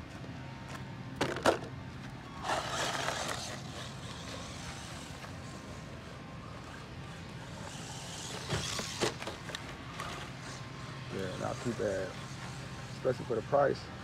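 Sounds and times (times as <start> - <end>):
rc truck motor and tyres: 0.0 - 14.0.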